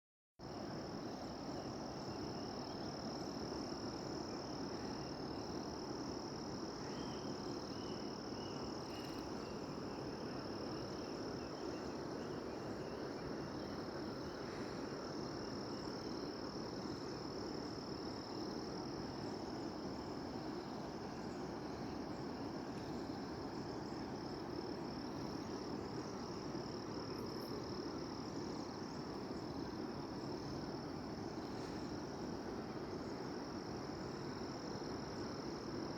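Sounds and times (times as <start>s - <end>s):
insects trilling: 0.4s - 35.9s.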